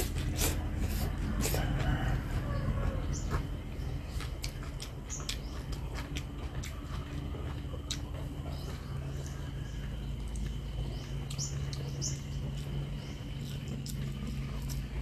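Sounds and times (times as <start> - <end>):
person chewing noodles: 0.0 - 15.0.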